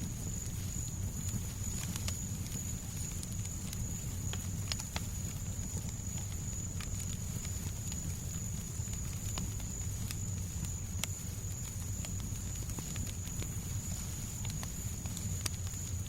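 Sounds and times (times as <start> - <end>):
fireplace crackling and popping: 0.0 - 16.0.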